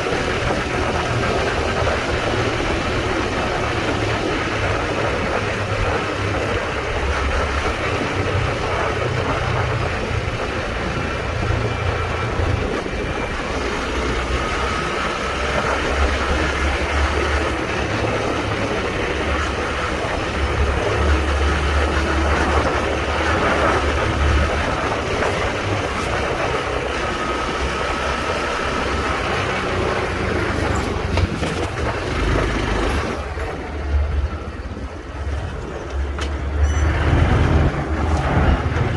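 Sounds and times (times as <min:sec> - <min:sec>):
wind rushing on microphone: 0:00.0 - 0:38.9.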